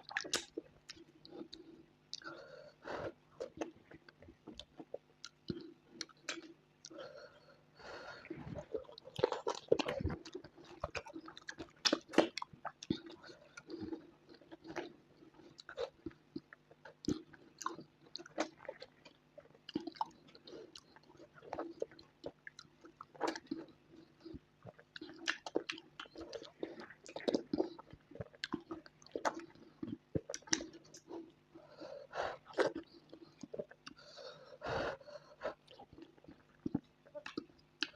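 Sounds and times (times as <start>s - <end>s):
chewing and wet mouth sounds: 0.0s - 2.4s, 3.0s - 7.3s, 8.0s - 37.9s.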